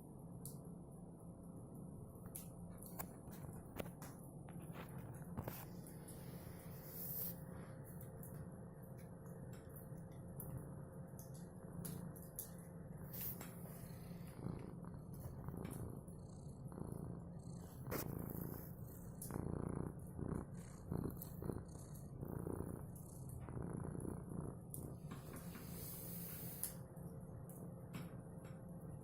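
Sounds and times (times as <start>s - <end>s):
cat purring: 1.8s - 8.6s, 10.4s - 26.8s.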